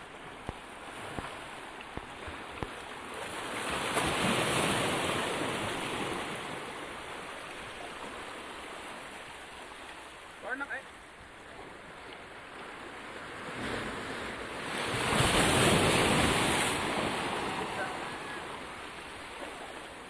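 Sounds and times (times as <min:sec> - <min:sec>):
sea waves washing over rocks: 0:00.0 - 0:10.8, 0:11.4 - 0:20.0.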